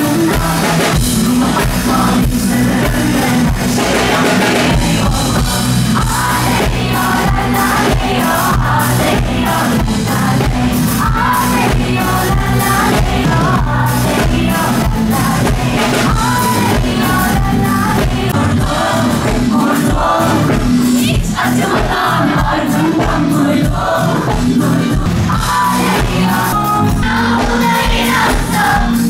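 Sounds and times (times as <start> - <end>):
band with drum beat and keyboards: 0.0 - 29.0
woman singing into a microphone: 0.0 - 29.0.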